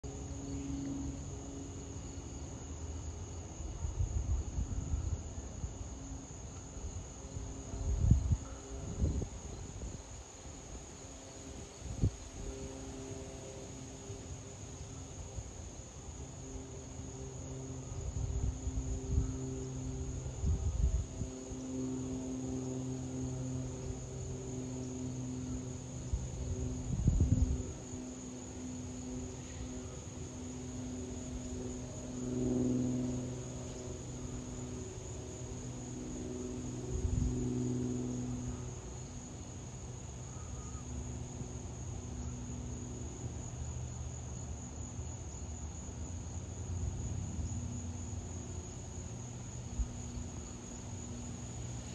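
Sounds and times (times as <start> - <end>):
crickets trilling: 0.0 - 51.9
distant propeller plane droning: 0.0 - 51.9.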